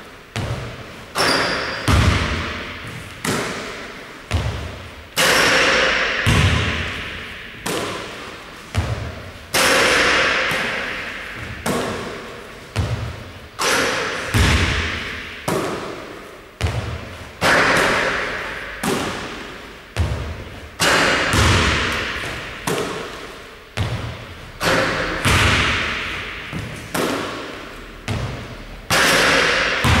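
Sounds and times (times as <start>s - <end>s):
basketball bouncing on gym floor: 0.3s - 16.0s, 16.6s - 30.0s
basketball hitting rim: 0.4s - 16.0s, 16.6s - 30.0s.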